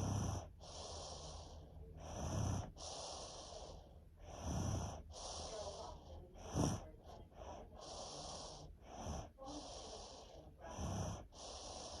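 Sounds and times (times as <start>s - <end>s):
breathy hiss: 0.0s - 1.8s, 2.5s - 12.0s
congested snoring: 0.0s - 12.0s.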